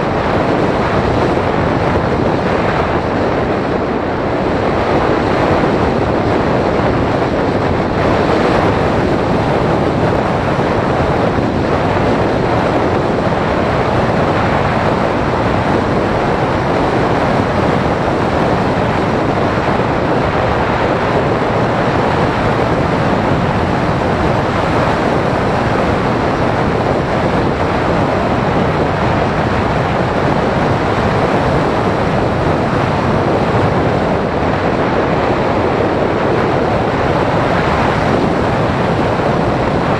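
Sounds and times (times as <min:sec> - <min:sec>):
airflow rushing over microphone: 0:00.0 - 0:39.9.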